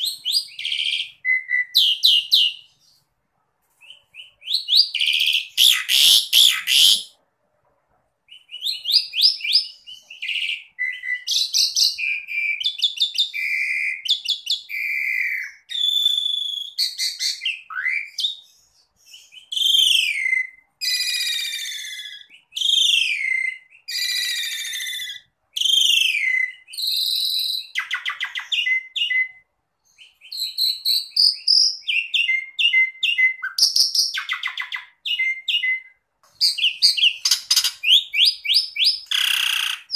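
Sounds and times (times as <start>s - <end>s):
starling singing: 0.0s - 3.0s, 3.8s - 7.2s, 8.3s - 39.9s
harsh scratchy bird calls: 0.0s - 7.2s, 8.3s - 39.9s.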